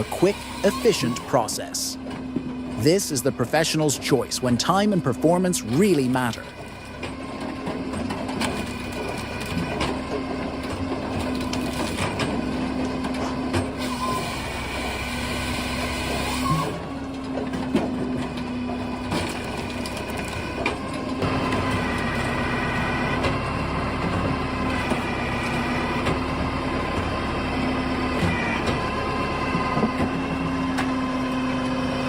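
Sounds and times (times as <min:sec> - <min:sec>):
firewood processor humming: 0:00.0 - 0:32.0.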